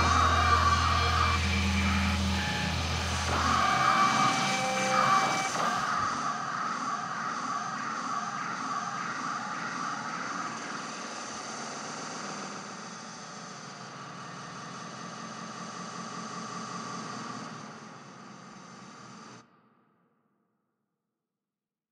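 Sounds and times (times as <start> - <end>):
electronic noise drone: 0.0 - 19.4.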